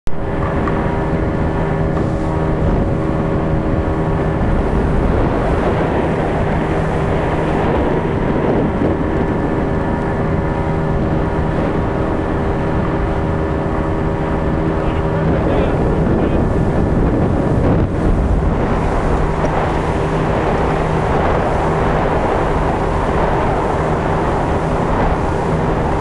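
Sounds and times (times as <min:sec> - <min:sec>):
boat engine drone: 0:00.1 - 0:26.0
rushing water noise: 0:00.1 - 0:26.0.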